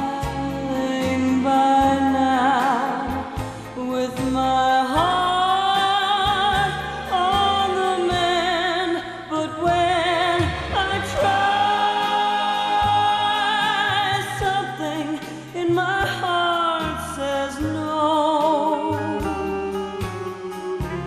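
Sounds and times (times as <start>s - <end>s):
instrumental accompaniment: 0.0s - 21.0s
woman singing with vibrato: 0.0s - 21.0s.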